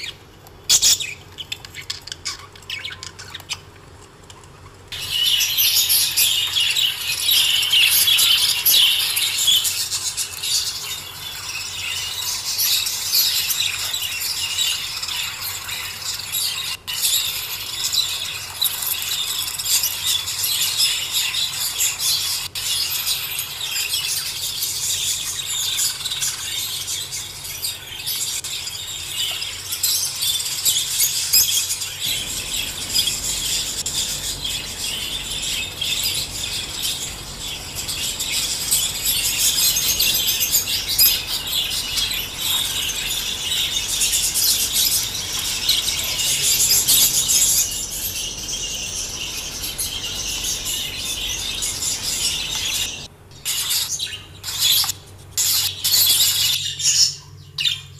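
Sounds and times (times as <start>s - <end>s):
parrots chirping and chattering: 0.0s - 57.9s.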